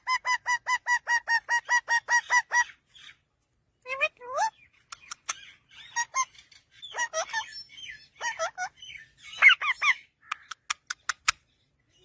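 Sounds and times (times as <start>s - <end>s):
parrots squawking: 0.0s - 2.8s, 4.4s - 11.4s.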